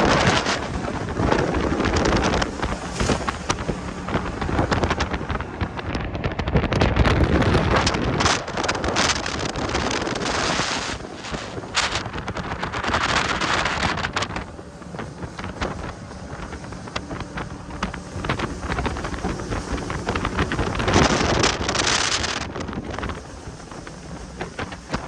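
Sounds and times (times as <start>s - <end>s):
boat engine rushing: 0.0s - 25.0s
water rushing: 0.0s - 25.0s
wind buffeting microphone: 0.0s - 25.0s.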